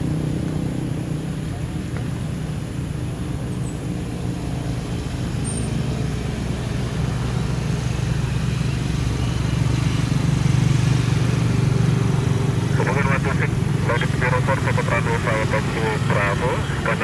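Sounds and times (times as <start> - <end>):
jet engines on takeoff: 0.0 - 17.0.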